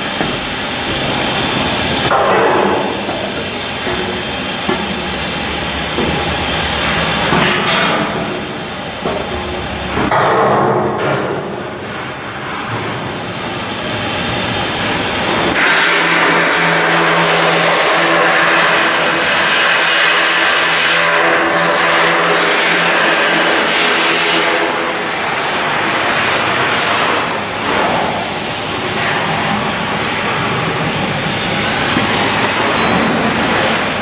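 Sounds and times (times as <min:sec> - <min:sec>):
heavy machinery running: 0:00.0 - 0:34.0.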